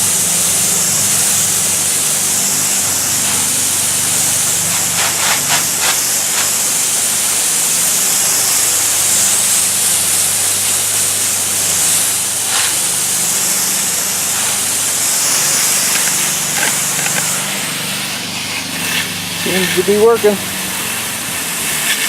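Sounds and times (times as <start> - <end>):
steady low hum: 0.0 - 21.7
water spraying from garden hose: 0.0 - 22.0.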